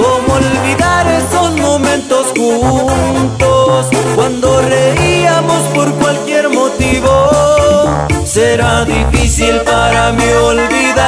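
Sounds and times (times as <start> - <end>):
brass melody: 0.0 - 11.0
sousaphone bass line: 0.0 - 11.0.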